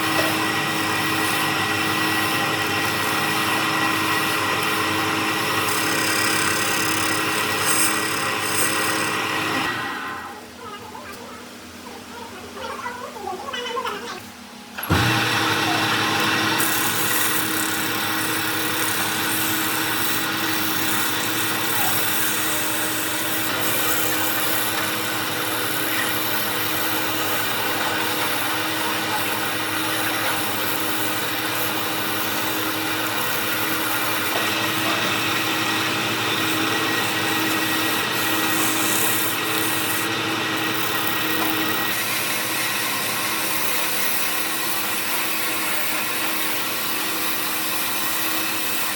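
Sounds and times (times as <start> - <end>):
tool scraping spinning wood: 0.0 - 10.3, 14.9 - 48.9
lathe motor hum: 0.0 - 10.4, 14.8 - 48.9.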